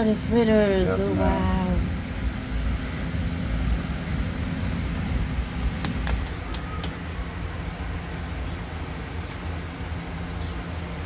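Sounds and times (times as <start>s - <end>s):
motor rumbling and humming: 0.0s - 11.0s.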